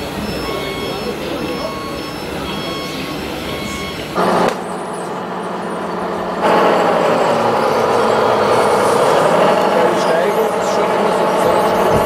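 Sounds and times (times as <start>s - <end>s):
toy truck motor running: 0.0s - 12.0s.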